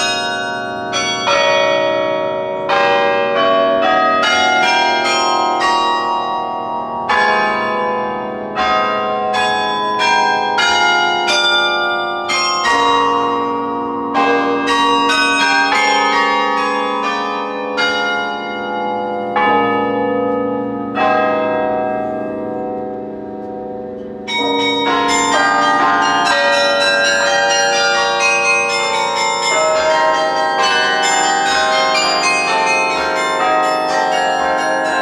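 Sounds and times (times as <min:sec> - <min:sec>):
carillon bells playing a tune: 0:00.0 - 0:35.0.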